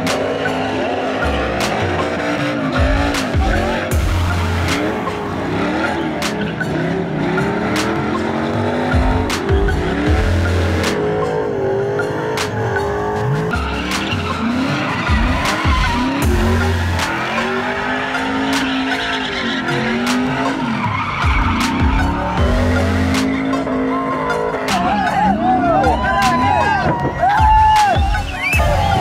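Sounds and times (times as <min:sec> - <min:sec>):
truck engine revving: 0:00.0 - 0:27.2
music with steady beat: 0:00.0 - 0:29.0
tyres squealing on asphalt: 0:00.0 - 0:29.0.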